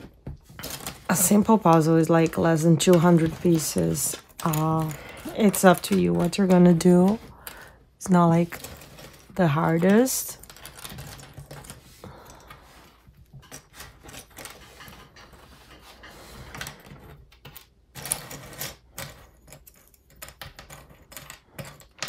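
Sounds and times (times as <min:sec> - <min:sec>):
wooden puzzle pieces clicking: 0:02.8 - 0:07.8, 0:08.5 - 0:12.6, 0:13.4 - 0:22.0.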